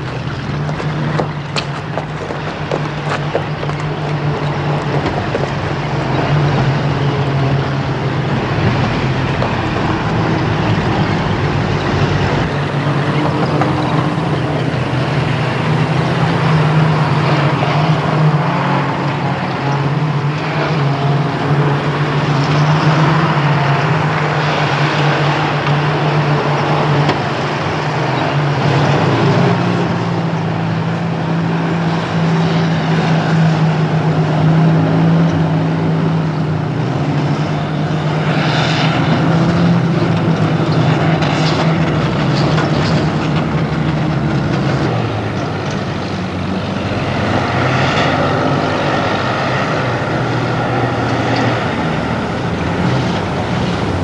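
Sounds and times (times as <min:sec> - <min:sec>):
military truck engines droning: 0:00.0 - 0:54.0.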